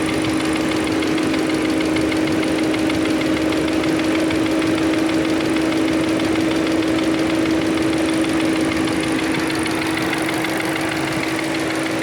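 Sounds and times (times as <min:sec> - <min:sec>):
car engine humming: 0:00.0 - 0:12.0
fast even engine ticking: 0:00.0 - 0:12.0.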